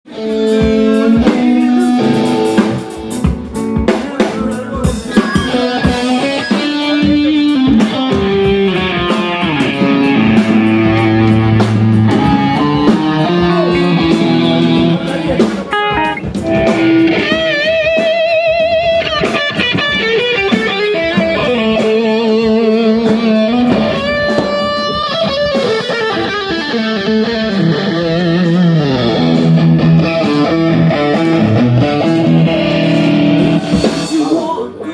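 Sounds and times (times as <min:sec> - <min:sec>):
electric guitar: 0:00.0 - 0:34.9
drums: 0:00.1 - 0:34.9.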